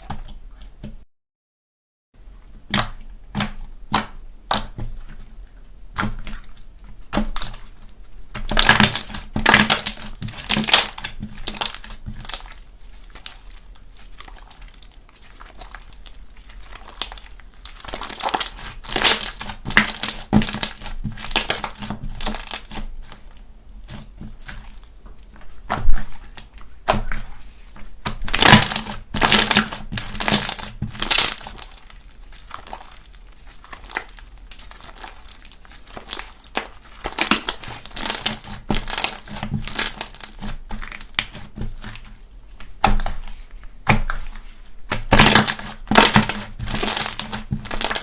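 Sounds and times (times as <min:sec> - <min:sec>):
slime clicking and crackling: 0:05.9 - 0:48.0.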